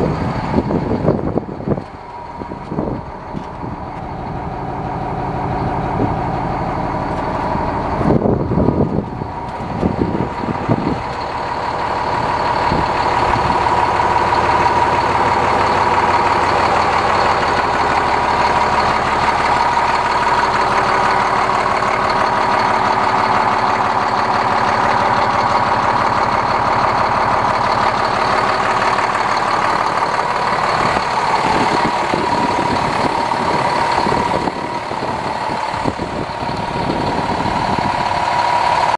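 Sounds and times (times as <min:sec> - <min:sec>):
heavy diesel truck engine running: 0:00.0 - 0:38.9.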